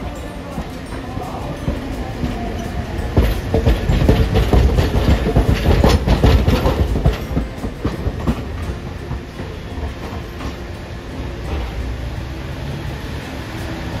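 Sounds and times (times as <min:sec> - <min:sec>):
tram running rumble: 0:00.0 - 0:14.0
tram wheels clattering on rails: 0:00.0 - 0:14.0.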